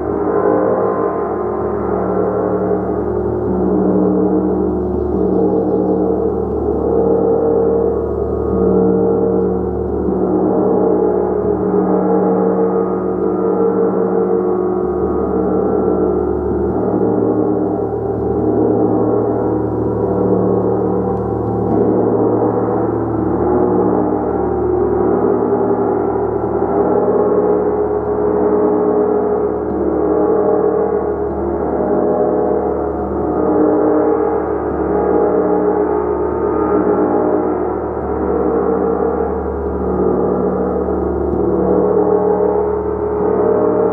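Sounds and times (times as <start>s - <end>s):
large gong played continuously: 0.0s - 43.9s.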